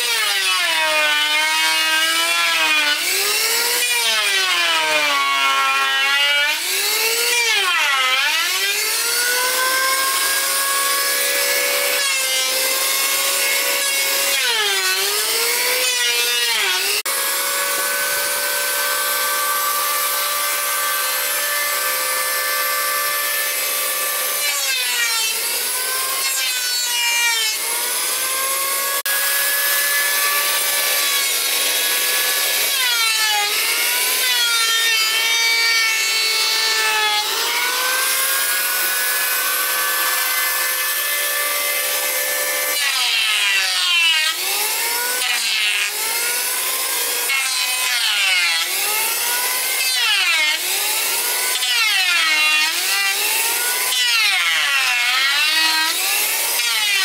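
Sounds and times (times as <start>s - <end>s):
electric saw cutting wood: 0.0s - 57.0s.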